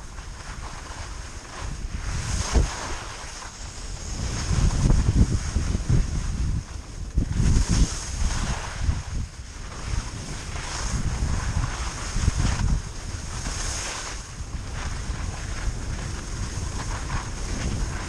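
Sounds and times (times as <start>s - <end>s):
skis hissing over snow: 0.0s - 18.0s
wind buffeting microphone: 0.0s - 18.0s.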